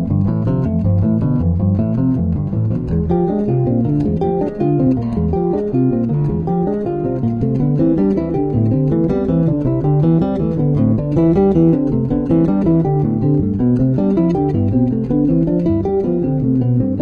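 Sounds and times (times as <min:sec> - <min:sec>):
bass line: 0:00.0 - 0:17.0
plucked guitar: 0:00.0 - 0:17.0.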